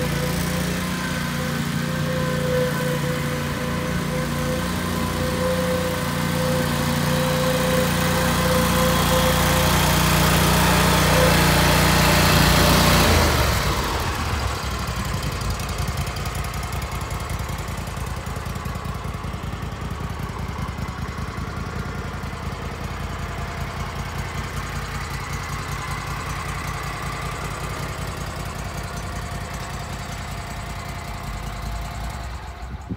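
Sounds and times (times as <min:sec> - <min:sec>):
mower engine running: 0:00.0 - 0:32.9.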